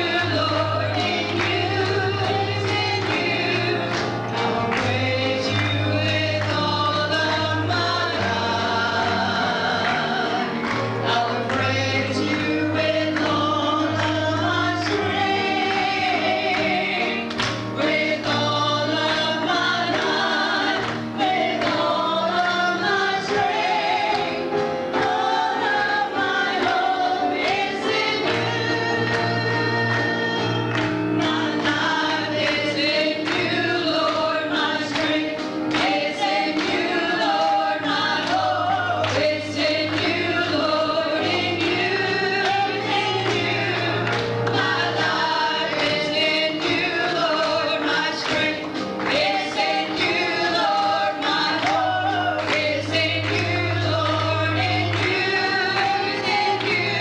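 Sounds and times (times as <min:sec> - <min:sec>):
group singing worship song: 0:00.0 - 0:57.0
instrumental accompaniment: 0:00.0 - 0:57.0.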